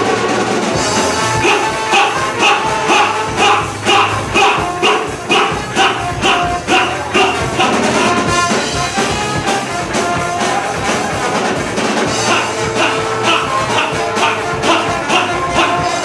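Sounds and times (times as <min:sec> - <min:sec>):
bass: 0:00.0 - 0:16.0
drums: 0:00.0 - 0:16.0
trombones and mellophone horn lines: 0:00.0 - 0:16.0.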